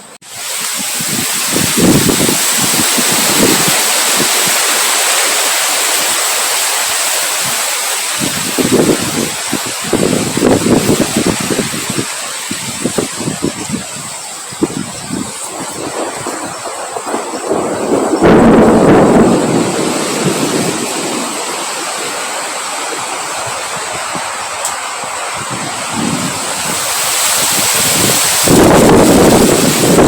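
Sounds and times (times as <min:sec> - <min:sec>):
strong wind hissing: 0:00.0 - 0:30.0
wind buffeting microphone: 0:00.2 - 0:06.2, 0:06.8 - 0:30.0.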